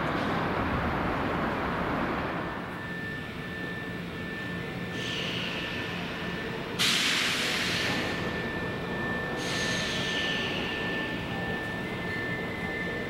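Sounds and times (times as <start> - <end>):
train low hum with high whine: 0.0 - 13.0.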